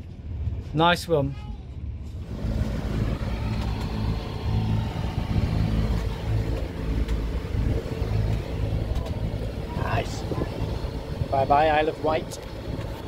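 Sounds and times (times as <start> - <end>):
diesel engine humming: 1.7 - 13.0.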